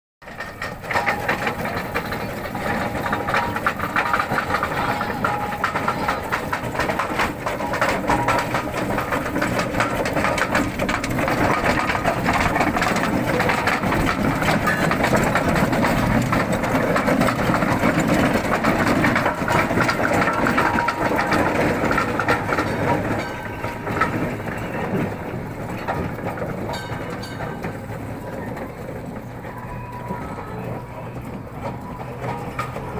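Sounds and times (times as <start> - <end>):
iron rolls rumbling on stones: 0.2 - 32.9
steam roller engine clatter: 0.2 - 32.9.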